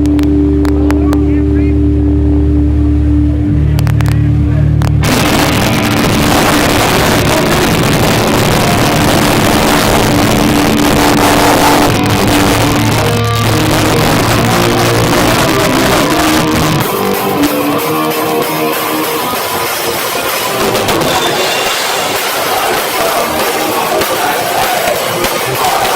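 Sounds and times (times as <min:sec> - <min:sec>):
heavy rock band playing: 0:00.0 - 0:25.9.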